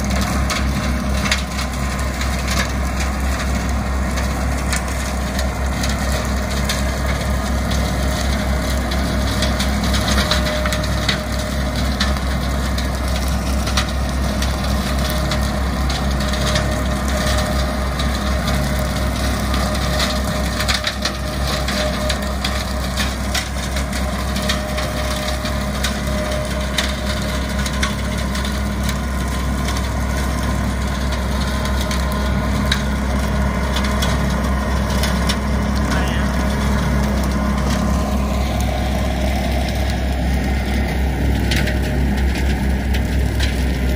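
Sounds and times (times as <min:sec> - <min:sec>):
mower chewing through brush: 0:00.0 - 0:43.9
stems cracking and snapping: 0:00.0 - 0:43.9
tractor engine running: 0:00.0 - 0:43.9.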